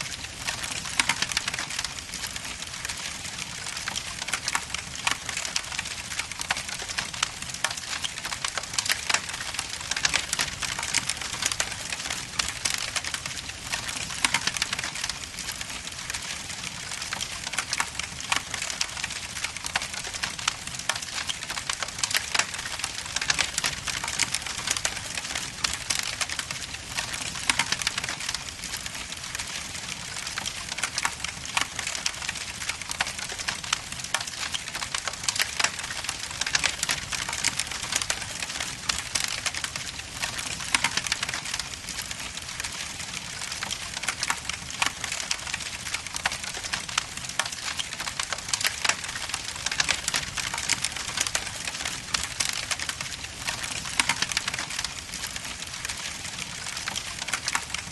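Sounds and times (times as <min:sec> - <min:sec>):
logs crackling in a fireplace: 0:00.0 - 0:57.9.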